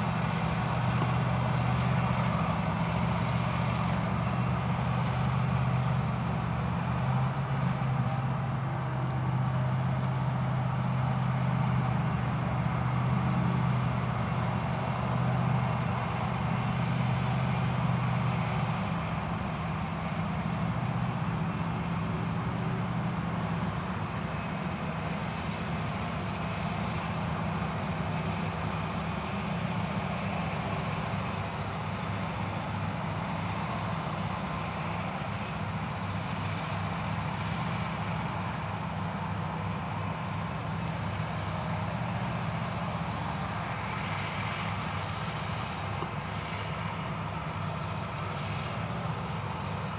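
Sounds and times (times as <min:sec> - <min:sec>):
forage harvester engine drone: 0:00.0 - 0:49.9.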